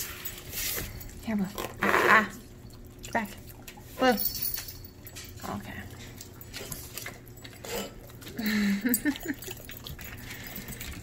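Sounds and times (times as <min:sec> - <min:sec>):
dogs licking and smacking: 0:00.0 - 0:11.0.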